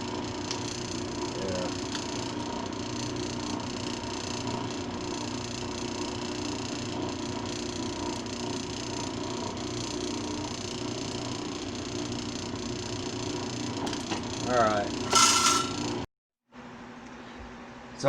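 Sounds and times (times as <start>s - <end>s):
saw motor humming: 0.0s - 16.0s.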